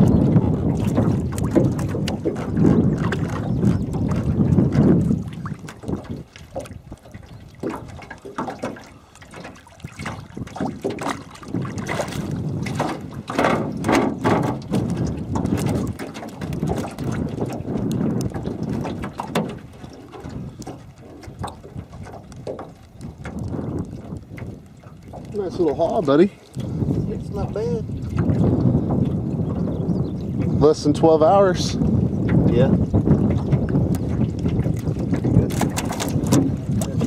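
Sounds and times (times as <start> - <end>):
water splashing against boat hull: 0.0 - 37.0.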